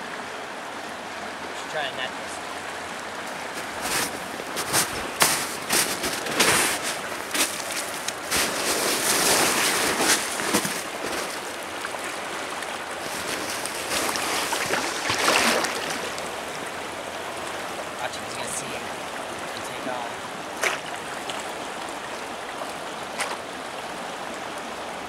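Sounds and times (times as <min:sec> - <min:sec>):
river current rushing: 0:00.0 - 0:25.0
splashing of wading: 0:00.0 - 0:25.0.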